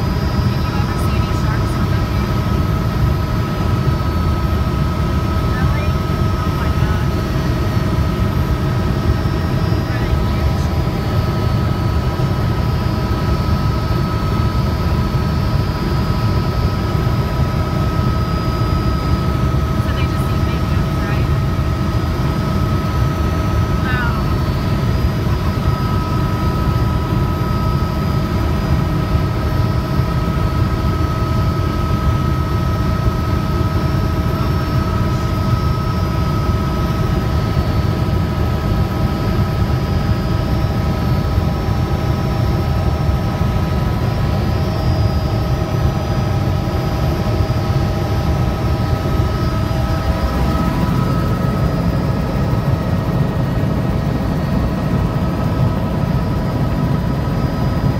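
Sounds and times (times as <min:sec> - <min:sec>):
helicopter rotor and engine rumble: 0:00.0 - 0:57.9
steady whining tones: 0:00.0 - 0:57.9.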